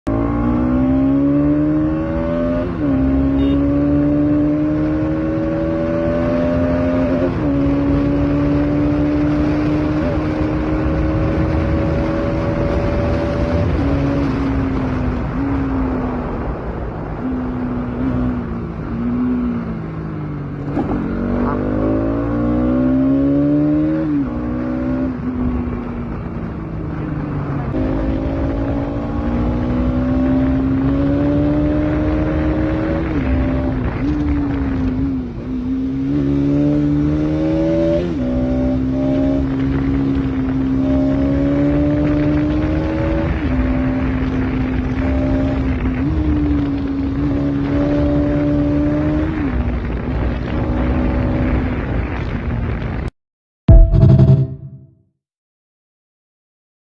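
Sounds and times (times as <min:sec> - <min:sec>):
motorcycle engine shifting gears: 0:00.0 - 0:15.8, 0:18.0 - 0:52.3.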